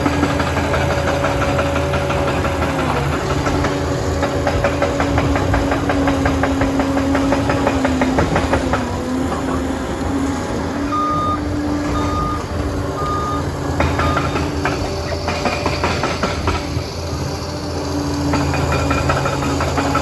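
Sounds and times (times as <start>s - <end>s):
dozer engine whine: 0.0s - 20.0s
steel tracks clanking: 0.0s - 20.0s.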